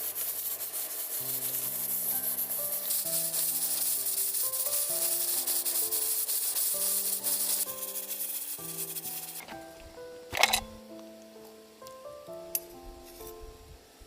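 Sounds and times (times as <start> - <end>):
wok sizzling: 0.0 - 12.8
soft background music: 0.0 - 14.0.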